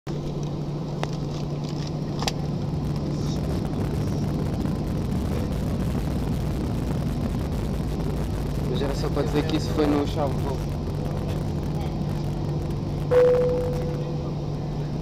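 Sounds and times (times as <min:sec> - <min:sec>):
jet engines droning: 0:00.1 - 0:15.0.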